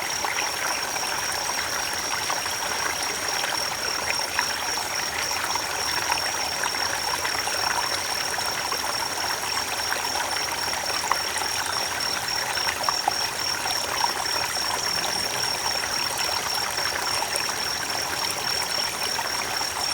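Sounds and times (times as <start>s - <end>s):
creek water over stones: 0.0s - 19.9s.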